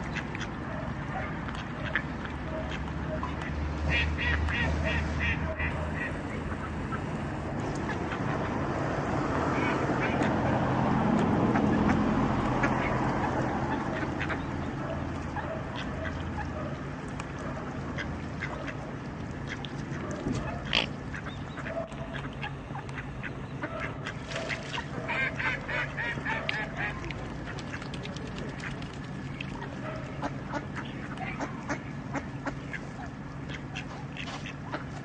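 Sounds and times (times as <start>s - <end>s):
ducks quacking: 0.0s - 8.7s, 9.3s - 35.0s.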